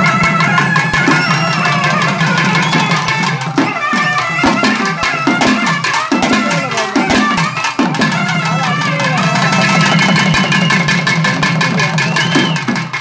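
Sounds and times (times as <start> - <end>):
fast hand-drumming: 0.0 - 13.0.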